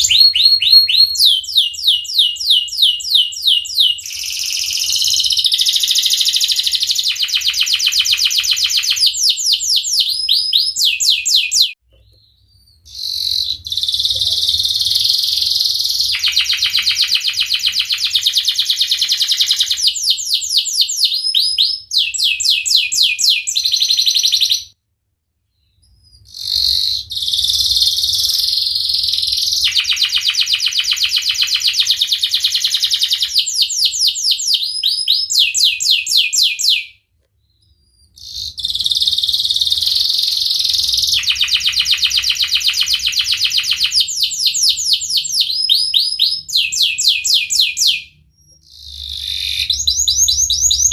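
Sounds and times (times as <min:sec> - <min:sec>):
canary singing trills: 0:00.0 - 0:24.8, 0:25.5 - 0:50.9.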